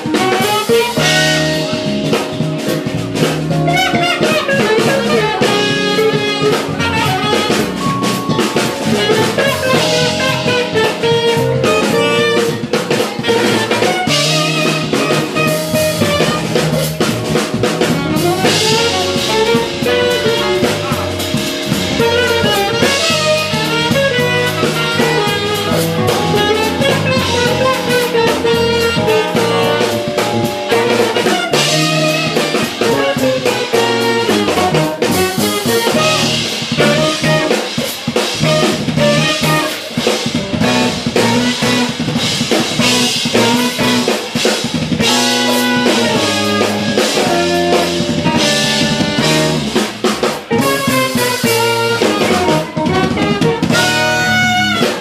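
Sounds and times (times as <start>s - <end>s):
drum kit: 0.0s - 55.0s
electric bass: 0.0s - 55.0s
electric guitar: 0.0s - 55.0s
saxophone playing: 0.0s - 55.0s.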